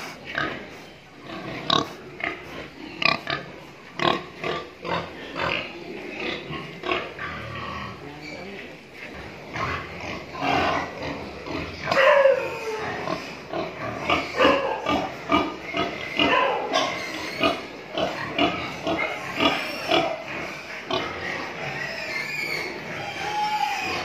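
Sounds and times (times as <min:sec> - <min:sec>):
pigs grunting and squealing: 0:00.0 - 0:08.4, 0:09.1 - 0:24.0.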